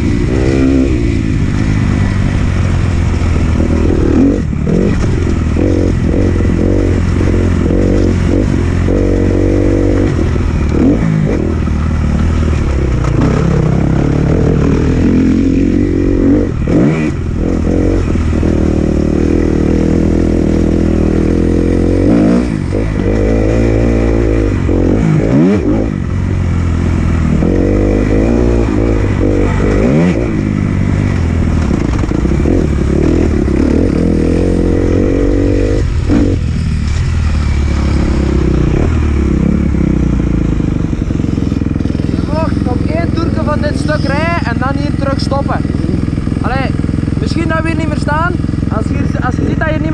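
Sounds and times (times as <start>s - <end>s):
motocross engine revving: 0.0s - 49.9s.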